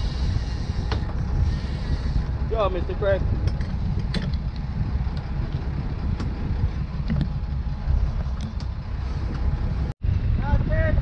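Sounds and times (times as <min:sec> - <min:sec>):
boat engine running: 0:00.0 - 0:09.9
wind buffeting microphone: 0:00.0 - 0:11.0.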